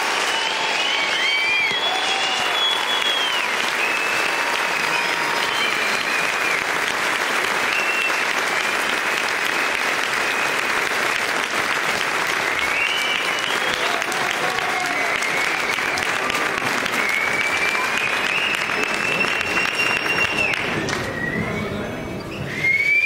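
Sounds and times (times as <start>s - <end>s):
audience applauding and cheering: 0.0s - 21.8s
high whistles: 0.1s - 10.9s, 12.3s - 14.0s, 14.8s - 23.0s.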